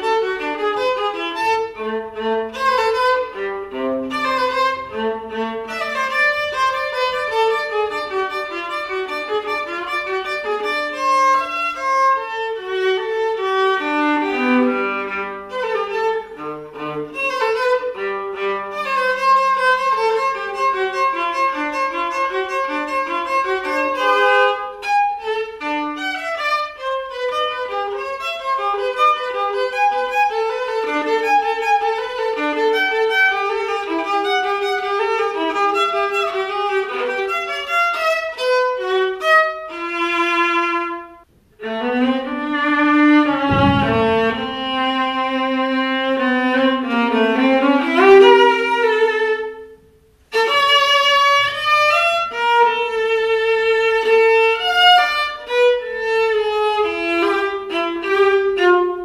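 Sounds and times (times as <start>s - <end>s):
solo viola played with bow: 0.0s - 59.0s.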